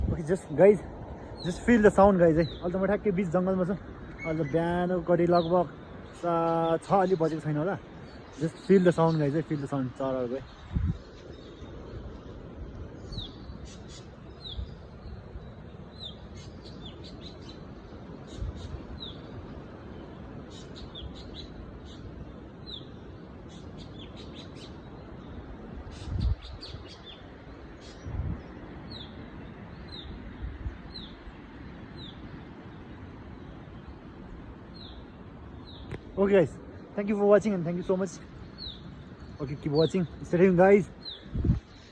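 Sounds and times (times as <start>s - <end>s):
background hiss: 0.0s - 41.9s
birds whistling downward notes: 0.3s - 9.8s, 10.4s - 41.9s.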